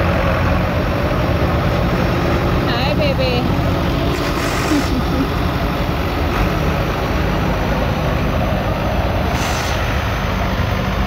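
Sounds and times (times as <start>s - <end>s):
tractor engines droning: 0.0s - 11.0s.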